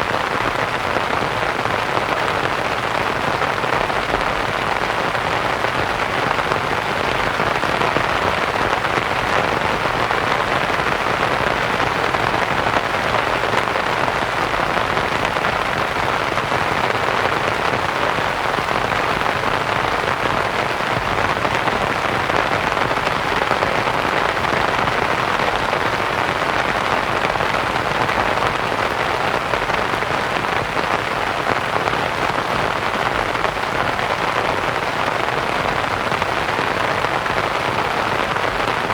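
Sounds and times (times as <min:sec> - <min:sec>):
rain on a canvas tent: 0:00.0 - 0:38.9.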